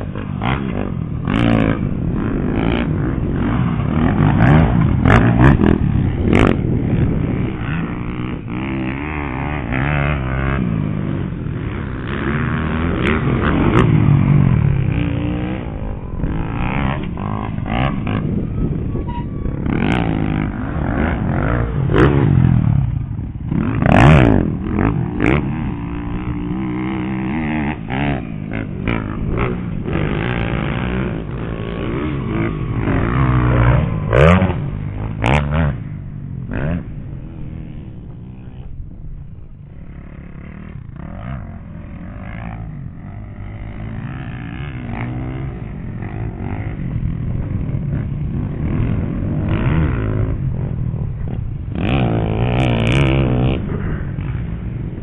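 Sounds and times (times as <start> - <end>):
dirt bikes revving past: 0.0 - 55.0.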